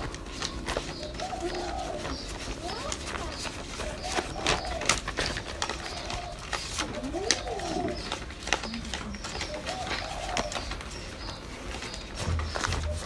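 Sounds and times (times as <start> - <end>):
banknotes flicking and rustling: 0.0 - 13.0
bird cooing: 0.0 - 13.0.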